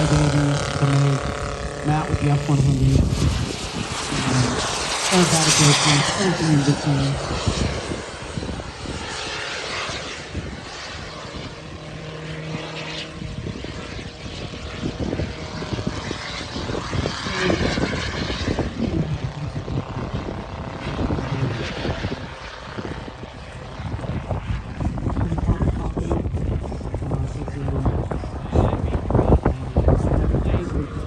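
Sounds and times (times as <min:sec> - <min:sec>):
model airplane engine passing overhead: 0:00.0 - 0:31.0.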